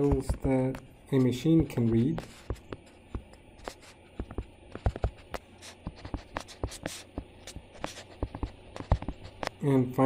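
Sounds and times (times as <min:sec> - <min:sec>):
stylus tapping and scratching on tablet: 0:00.0 - 0:09.8.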